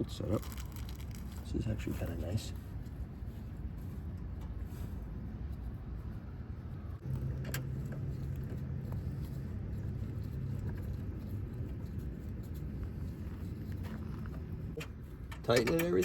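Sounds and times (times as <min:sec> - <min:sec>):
low motor rumble: 0:02.9 - 0:15.9.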